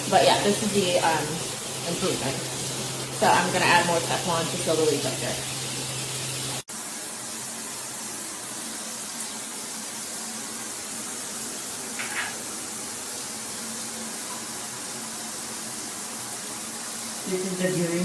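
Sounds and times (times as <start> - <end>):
shower water spraying: 0.0 - 18.0.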